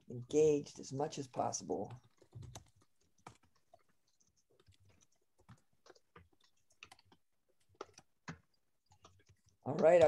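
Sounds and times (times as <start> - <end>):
typing on computer keyboard: 1.9 - 10.0.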